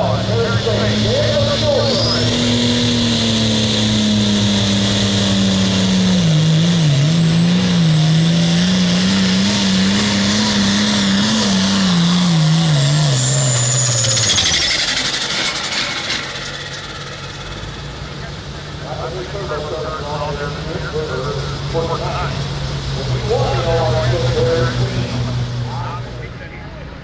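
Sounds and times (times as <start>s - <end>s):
high whine winding down: 0.0s - 22.4s
tractor diesel engine under load: 0.0s - 27.0s.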